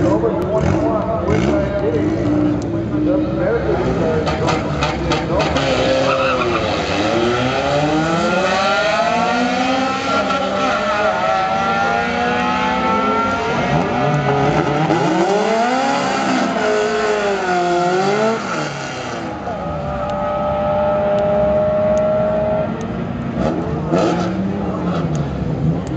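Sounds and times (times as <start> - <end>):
car engines accelerating hard: 0.0 - 25.9.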